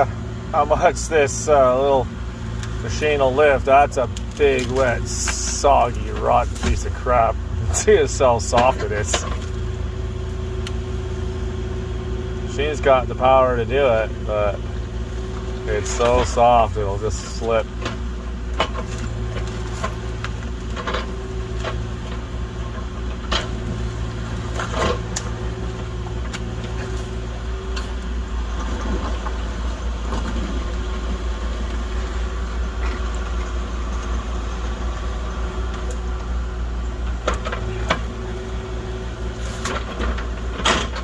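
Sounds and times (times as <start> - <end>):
diesel excavator running: 0.0 - 41.0.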